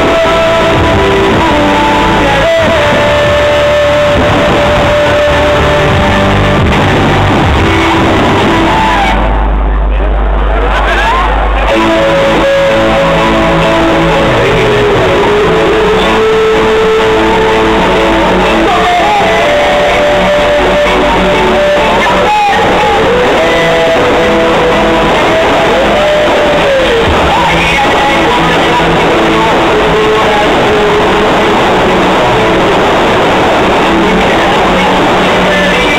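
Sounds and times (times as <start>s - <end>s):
loud guitar-led music: 0.0s - 35.9s.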